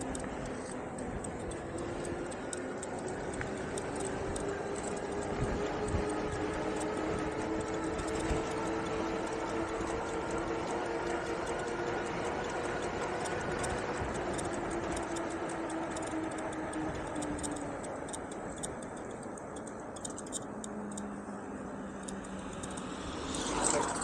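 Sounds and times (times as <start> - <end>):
electric motor humming: 0.0 - 24.0
rapid irregular ticking: 0.0 - 24.0
wheels rolling noise: 0.0 - 24.0.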